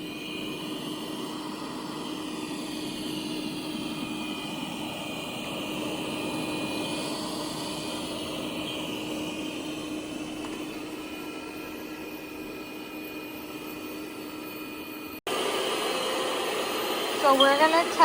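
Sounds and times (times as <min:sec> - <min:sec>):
robot vacuum whirring: 0:00.0 - 0:18.0.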